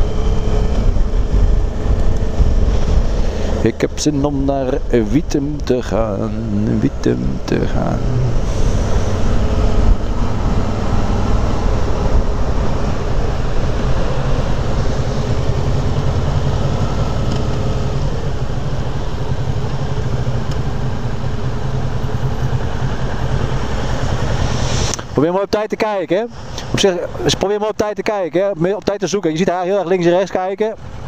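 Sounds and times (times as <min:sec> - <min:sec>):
motorcycle engine running: 0:00.0 - 0:25.1
wind rush and road noise: 0:00.0 - 0:31.0.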